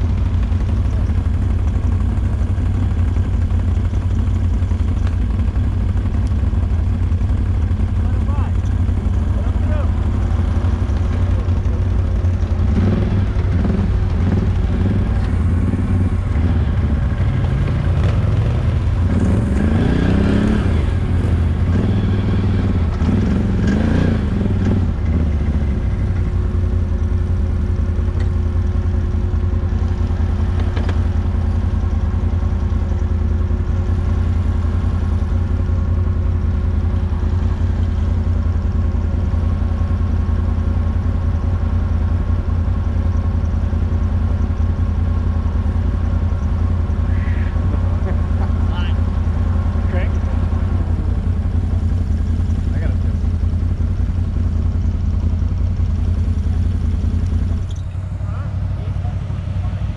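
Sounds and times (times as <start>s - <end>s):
atv engine idling: 0.0s - 59.9s.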